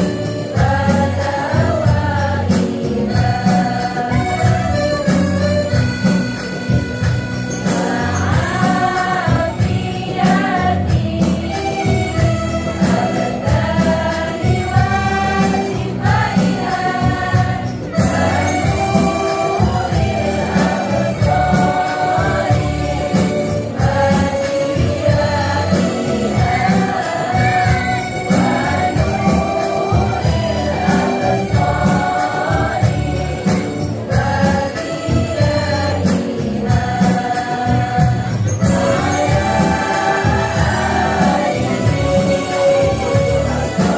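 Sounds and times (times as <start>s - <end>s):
women's choir singing: 0.0s - 6.8s, 7.4s - 43.9s
rhythmic instrumental backing: 0.0s - 43.9s.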